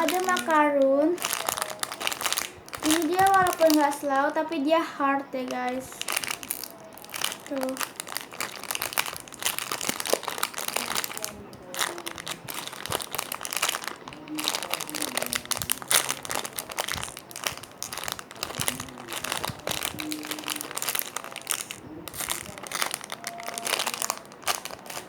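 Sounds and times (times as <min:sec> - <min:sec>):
faint background music: 0:00.0 - 0:25.0
foam toys crinkling and rustling: 0:00.0 - 0:25.0.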